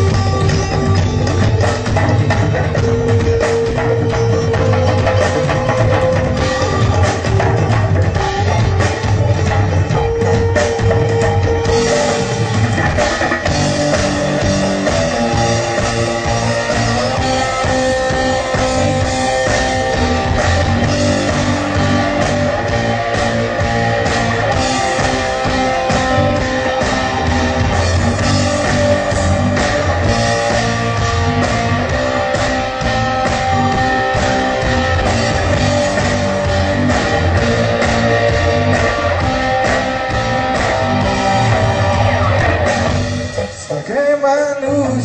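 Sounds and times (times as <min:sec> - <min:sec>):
rock music with drums and guitar: 0:00.0 - 0:45.0.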